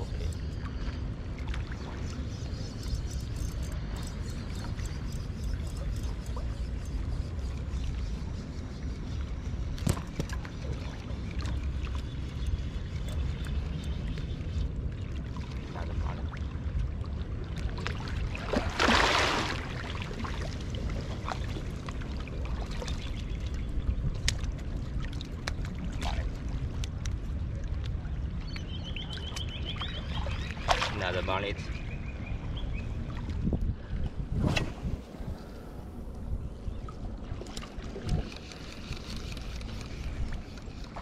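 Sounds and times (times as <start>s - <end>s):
water sounds: 0.0s - 41.0s
wind rumble on microphone: 0.0s - 41.0s.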